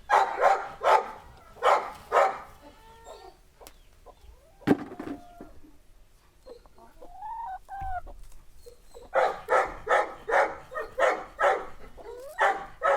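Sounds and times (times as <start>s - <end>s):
farm animal calling: 0.0s - 5.8s, 6.4s - 12.9s.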